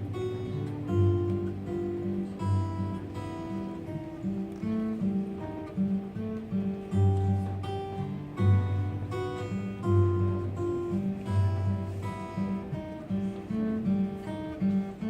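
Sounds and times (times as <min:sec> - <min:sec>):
fingerpicked acoustic guitar melody: 0:00.0 - 0:15.0.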